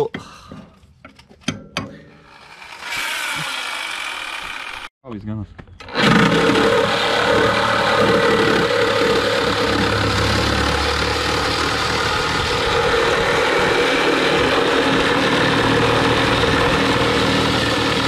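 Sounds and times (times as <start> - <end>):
power tool cutting metal: 2.2 - 4.9, 5.8 - 18.0.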